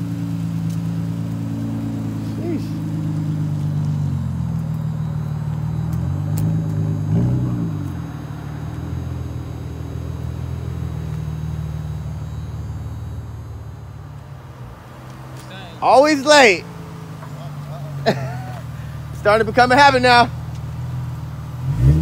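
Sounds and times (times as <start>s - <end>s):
car engine driving off: 0.0s - 22.0s.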